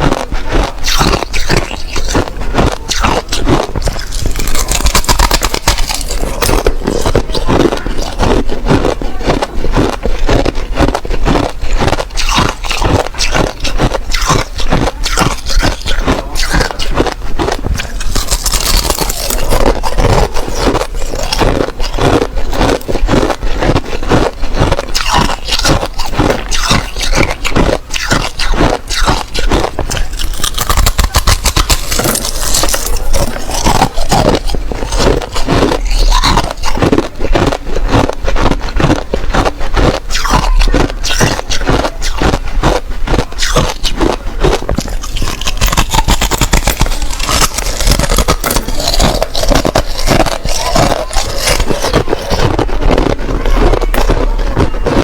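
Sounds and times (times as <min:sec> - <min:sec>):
ice crunching being chewed: 0:00.0 - 0:55.0.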